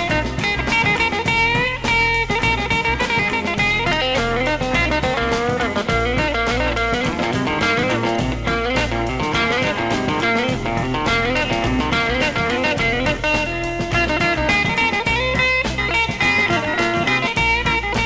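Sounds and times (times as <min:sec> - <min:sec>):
drums with steady beat: 0:00.0 - 0:18.0
electric bass: 0:00.0 - 0:18.0
electric guitar melody: 0:00.0 - 0:18.0.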